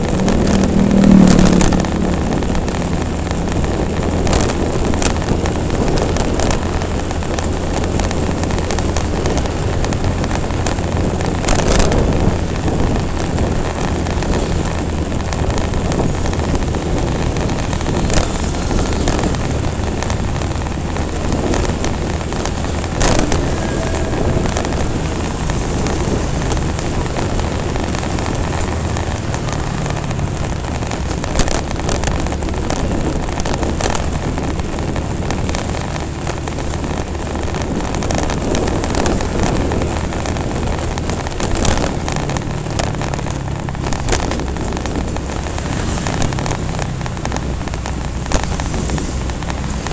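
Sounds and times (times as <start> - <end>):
motorcycle engine drone: 0.0 - 49.9
wind rushing over microphone: 0.0 - 49.9.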